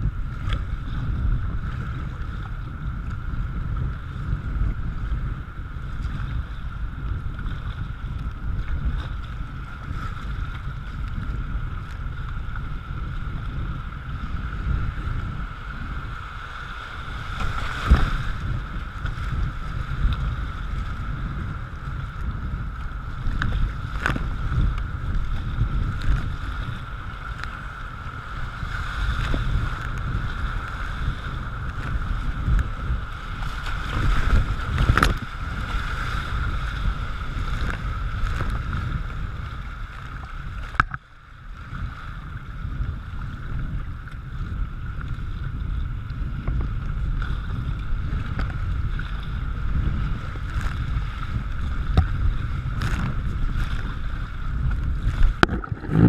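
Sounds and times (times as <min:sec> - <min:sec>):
rushing water: 0:00.0 - 0:56.0
wind buffeting microphone: 0:00.0 - 0:56.0
paddle splashes: 0:05.8 - 0:56.0.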